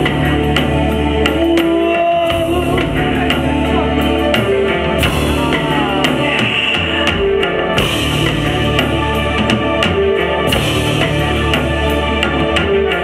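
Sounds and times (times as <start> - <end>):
live metal band playing: 0.0 - 13.0
singer holding long notes: 0.0 - 13.0.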